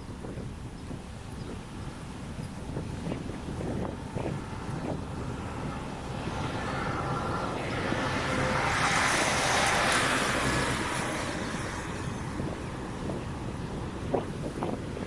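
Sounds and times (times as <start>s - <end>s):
car passing: 2.8s - 15.0s.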